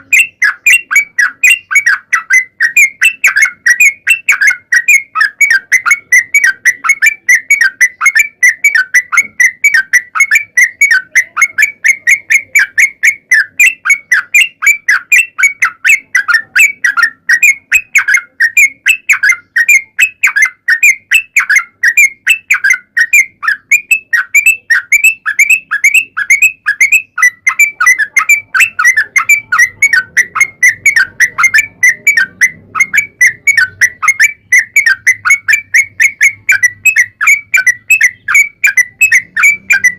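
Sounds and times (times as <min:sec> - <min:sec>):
bird singing rapid repeated notes: 0:00.0 - 0:39.9.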